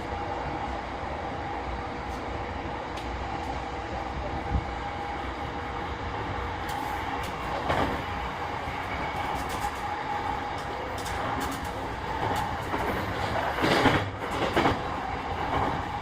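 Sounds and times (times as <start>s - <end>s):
steady train hum: 0.0s - 16.0s
train wheels rumbling on rail: 0.0s - 16.0s.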